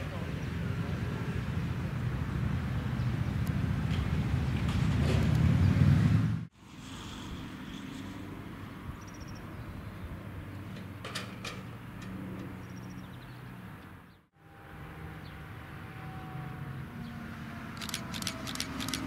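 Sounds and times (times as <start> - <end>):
distant engine hum: 0.0 - 19.0.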